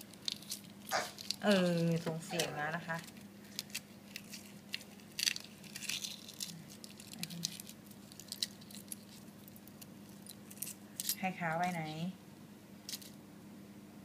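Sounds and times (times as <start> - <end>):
egg shell crackling while peeled: 0.0 - 11.9.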